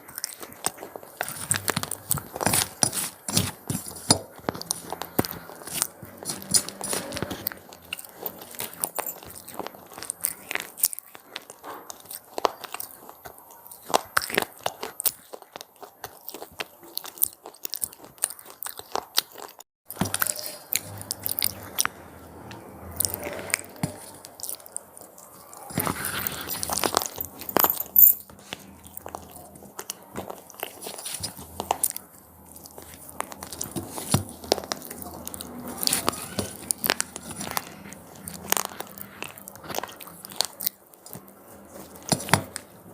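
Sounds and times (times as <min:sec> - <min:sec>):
crunchy snacks being chewed: 0:00.0 - 0:42.9.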